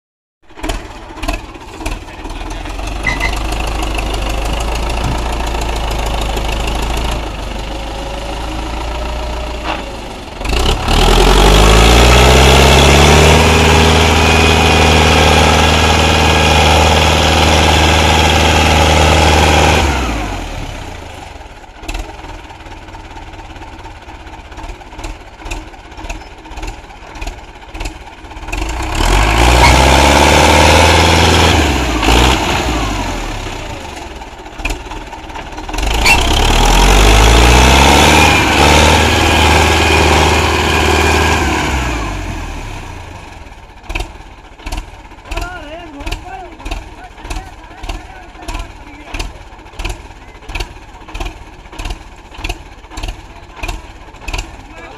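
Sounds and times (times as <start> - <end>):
tractor diesel engine revving: 0.4 - 54.9.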